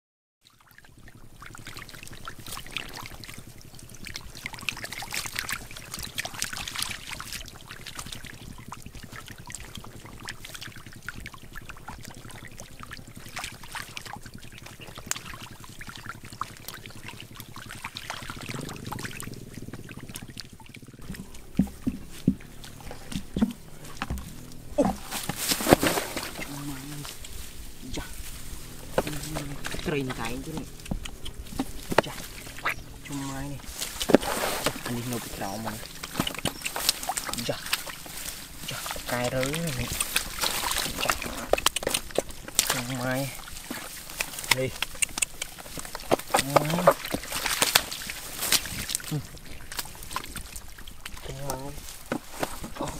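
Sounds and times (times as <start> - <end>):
muddy water splashing: 0.4 - 52.9.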